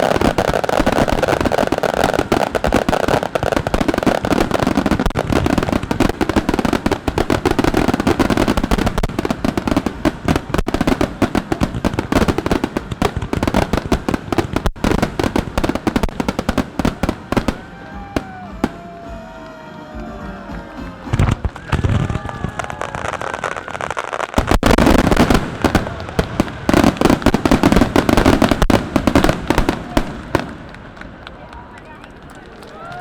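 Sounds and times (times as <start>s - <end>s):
fireworks bursts and crackling: 0.0s - 33.0s.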